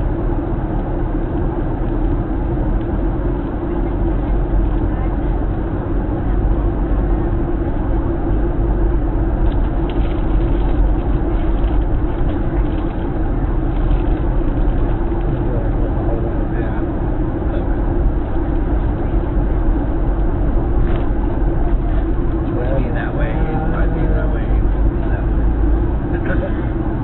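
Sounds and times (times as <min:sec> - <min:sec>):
airflow and jet engines drone: 0:00.0 - 0:27.0
indistinct passenger chatter: 0:00.0 - 0:27.0.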